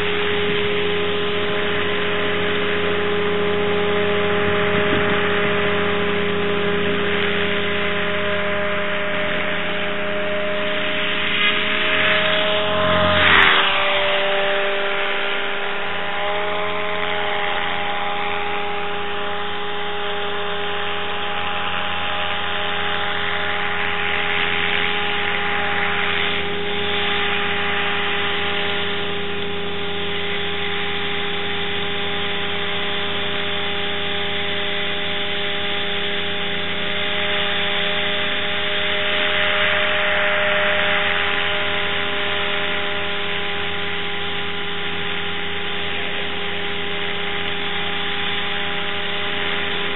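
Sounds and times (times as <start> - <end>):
steady machine drone: 0.0 - 49.9.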